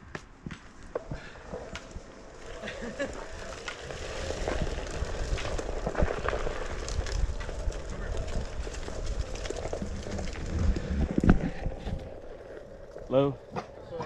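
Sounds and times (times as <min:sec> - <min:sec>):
wind rumbling on microphone: 0:01.1 - 0:14.0.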